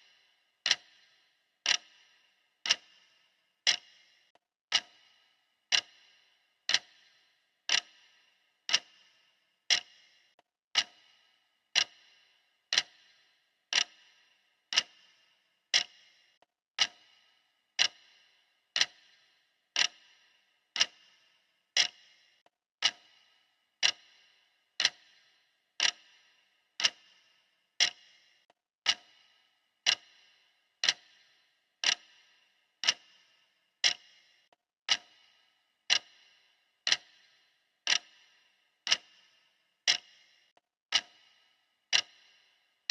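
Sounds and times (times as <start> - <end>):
timer ticking: 0.0 - 42.9.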